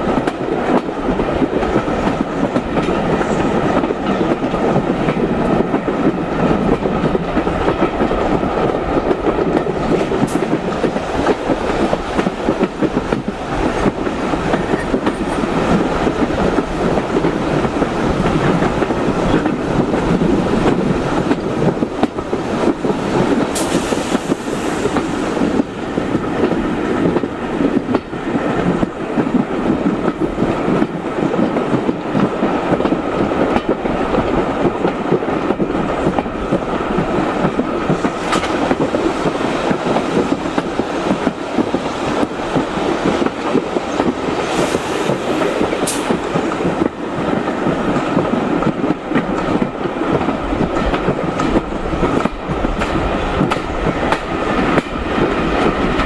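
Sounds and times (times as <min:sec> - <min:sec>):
train carriage wheels rumbling: 0:00.0 - 0:56.0.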